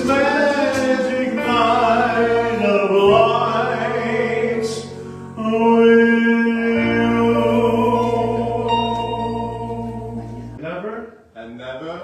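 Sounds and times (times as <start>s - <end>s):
backing track: 0.0s - 10.6s.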